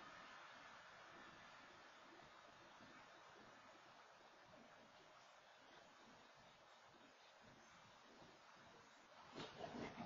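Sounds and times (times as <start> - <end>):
faint outdoor hiss: 0.0 - 10.0.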